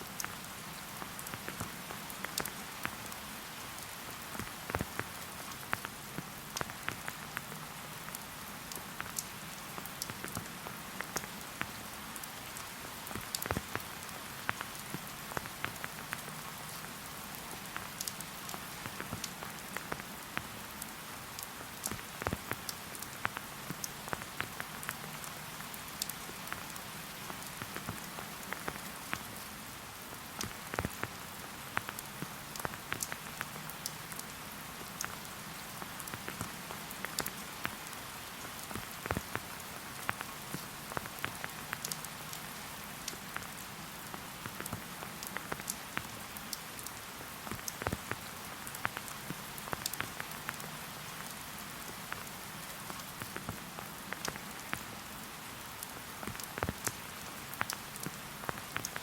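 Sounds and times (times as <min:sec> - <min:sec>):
raindrops ticking: 0:00.0 - 0:55.1, 0:55.8 - 0:59.0
steady rain falling: 0:00.0 - 0:59.0.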